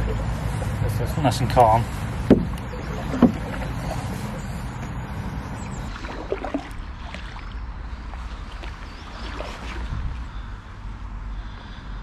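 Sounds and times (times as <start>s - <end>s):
paddle strokes in water: 0.0s - 10.6s
low wind rumble on microphone: 1.8s - 12.0s.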